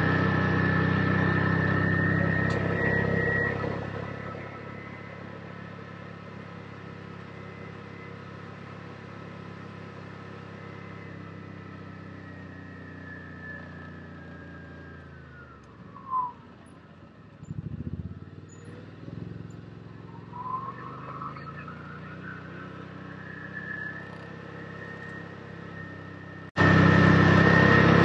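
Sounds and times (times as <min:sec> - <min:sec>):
high whine: 0:00.0 - 0:16.8, 0:19.5 - 0:28.0
utility vehicle engine running: 0:00.0 - 0:28.0.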